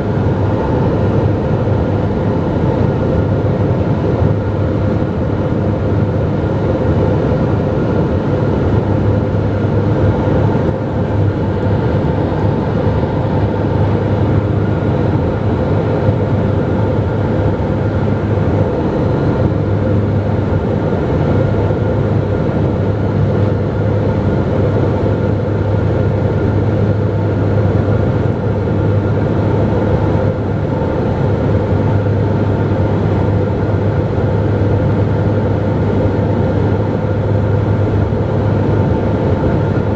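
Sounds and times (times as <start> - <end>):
airflow noise: 0.0 - 39.9
propeller and engine drone: 0.0 - 39.9.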